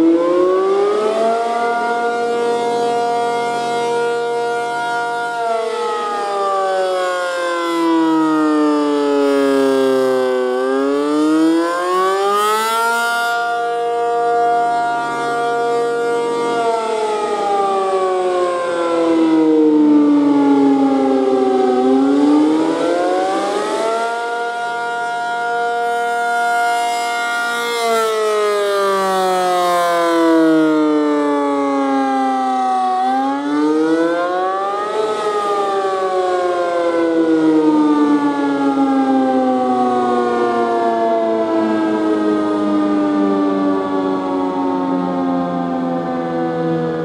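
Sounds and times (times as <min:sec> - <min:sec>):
warning siren wailing: 0:00.0 - 0:47.0.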